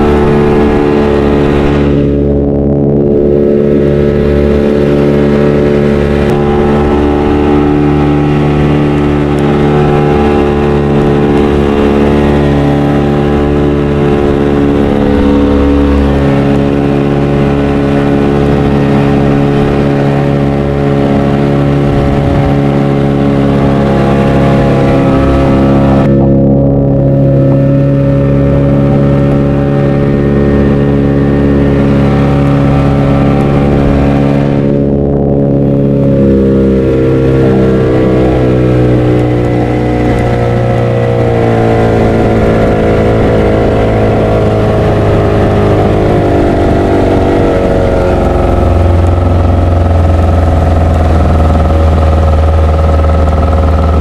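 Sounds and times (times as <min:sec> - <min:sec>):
boat motor running: 0:00.0 - 0:54.0
water noise: 0:00.0 - 0:54.0
wind noise: 0:00.0 - 0:54.0.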